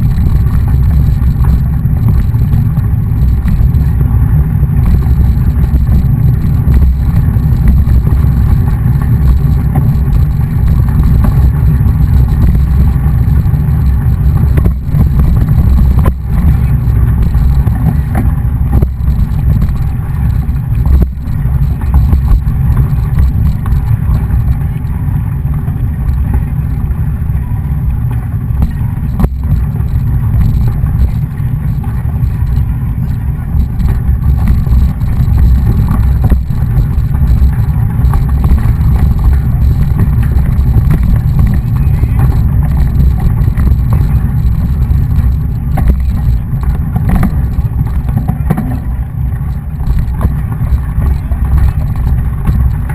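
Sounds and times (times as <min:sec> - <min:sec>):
knocks and rattles: 0:00.0 - 0:24.9, 0:28.1 - 0:52.9
wind buffeting microphone: 0:00.0 - 0:52.9.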